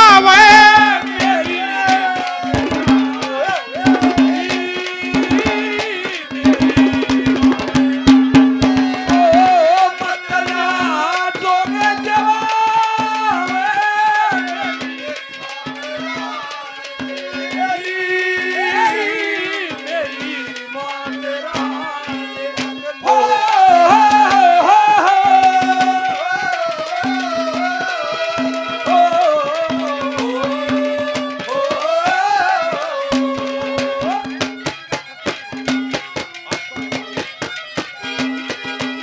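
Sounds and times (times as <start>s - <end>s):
tabla beat: 0.0s - 39.0s.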